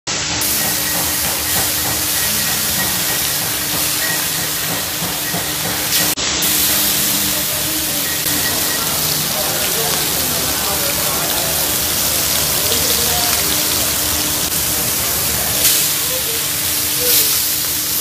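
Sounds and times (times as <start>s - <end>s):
oil sizzling on a griddle: 0.1s - 18.0s.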